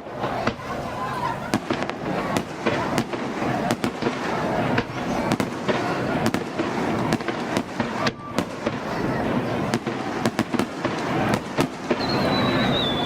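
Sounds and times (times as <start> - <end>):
fireworks bangs and cracks: 0.0 - 13.0
fireworks crackle: 0.0 - 13.0.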